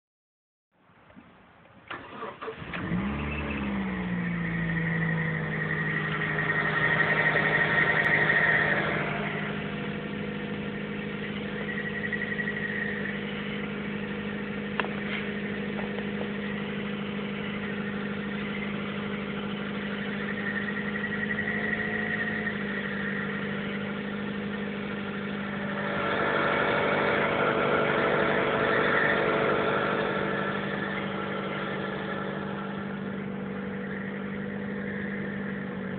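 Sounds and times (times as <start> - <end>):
car engine starting and idling: 1.6 - 35.9
high-pitched engine noise: 2.0 - 35.9.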